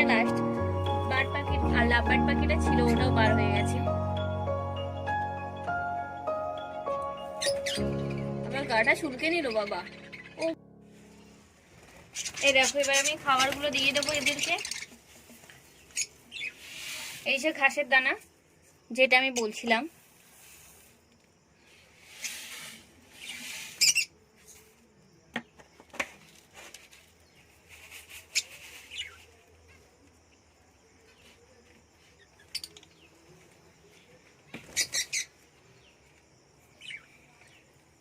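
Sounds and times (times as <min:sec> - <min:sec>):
cage birds chirping: 0:00.0 - 0:38.0.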